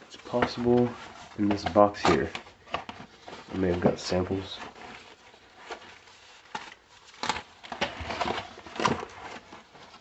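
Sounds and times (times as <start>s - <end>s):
cardboard packaging rustling: 0.0s - 10.0s.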